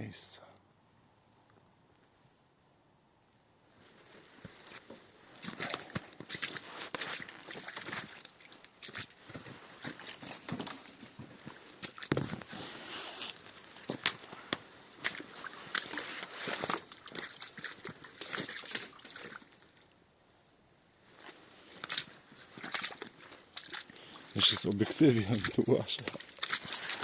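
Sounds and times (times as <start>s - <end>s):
sloshing through wet ground: 3.8s - 20.0s, 21.0s - 27.0s.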